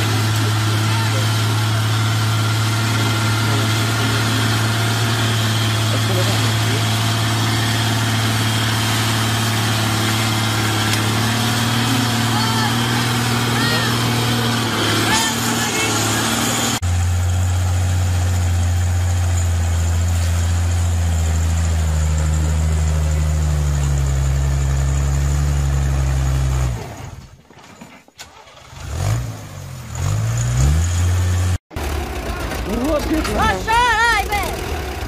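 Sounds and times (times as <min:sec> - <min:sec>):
tractor diesel engine revving: 0:00.0 - 0:27.3, 0:28.2 - 0:35.0.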